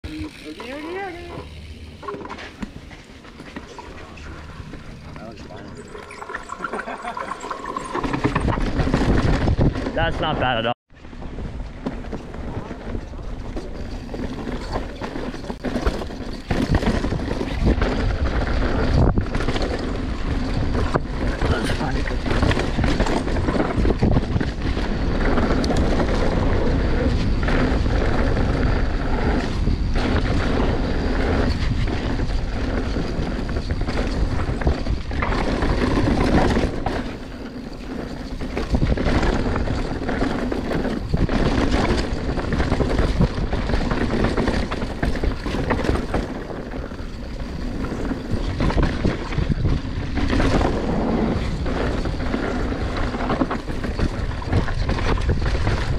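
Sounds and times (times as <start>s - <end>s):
bike rattling on rough ground: 0.1s - 55.9s
wind buffeting microphone: 3.7s - 55.9s.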